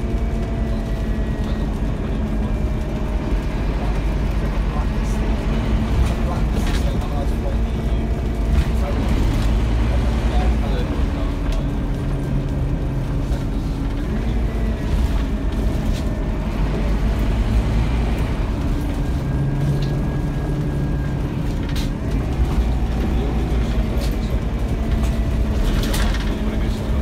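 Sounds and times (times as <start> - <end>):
bus diesel engine rumble: 0.0 - 27.0.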